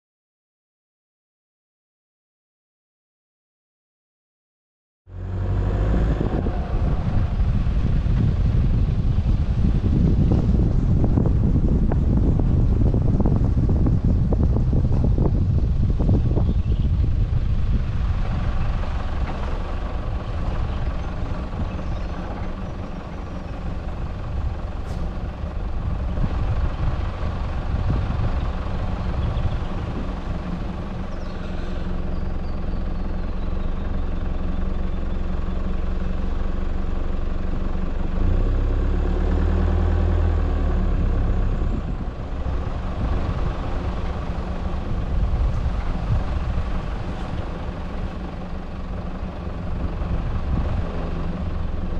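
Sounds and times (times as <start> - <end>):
tyres on gravel track: 5.1 - 51.9
vehicle engine hum: 5.1 - 51.9.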